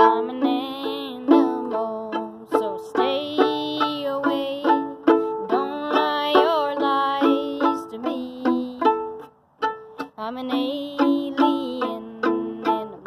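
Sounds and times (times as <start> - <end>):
bowed violin melody: 0.0 - 13.0.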